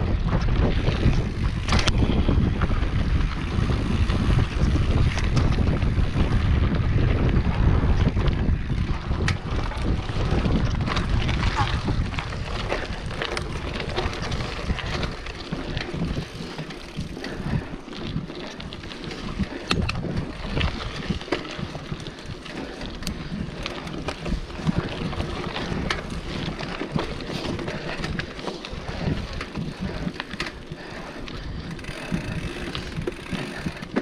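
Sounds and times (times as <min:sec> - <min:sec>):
bike rattling over bumps: 0:00.0 - 0:34.0
bike tyres rolling over dirt: 0:00.0 - 0:34.0
wind buffeting microphone: 0:00.0 - 0:34.0.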